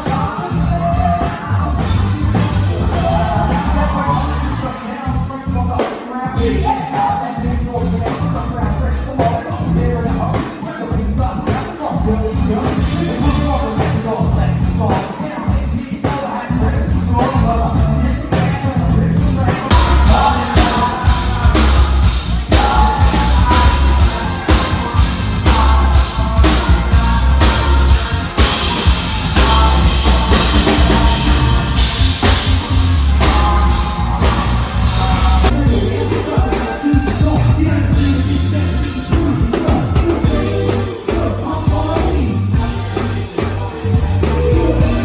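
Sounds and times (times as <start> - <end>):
live band playing: 0.0 - 45.0
person singing: 0.0 - 45.0.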